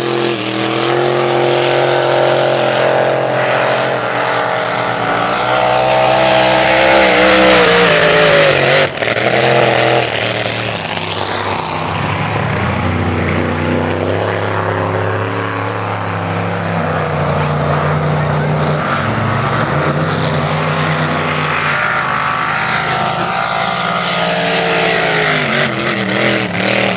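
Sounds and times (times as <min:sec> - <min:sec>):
boat engine running steadily: 0:00.0 - 0:26.9
race boat engine passing close: 0:00.0 - 0:26.9.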